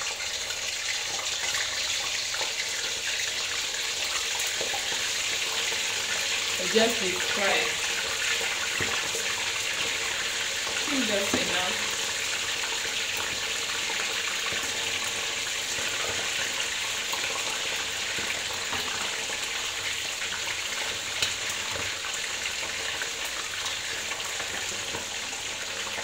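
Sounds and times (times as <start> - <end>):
chicken deep frying in oil: 0.0 - 26.0.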